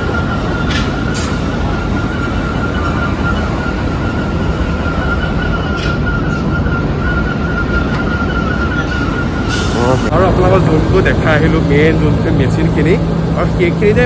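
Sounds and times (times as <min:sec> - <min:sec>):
heavy industrial machinery running: 0:00.0 - 0:14.0
high machine whine: 0:00.0 - 0:14.0.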